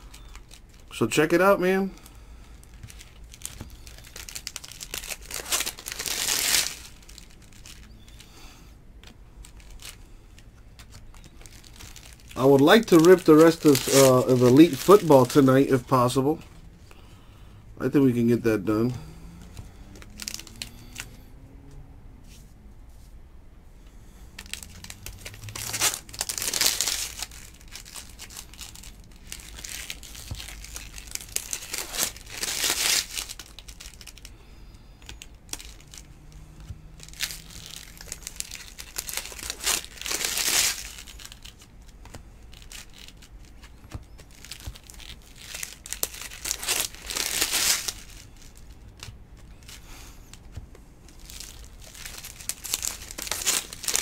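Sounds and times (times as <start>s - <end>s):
foil wrapper crinkling and tearing: 0.0s - 16.4s, 20.1s - 21.1s, 24.4s - 54.0s.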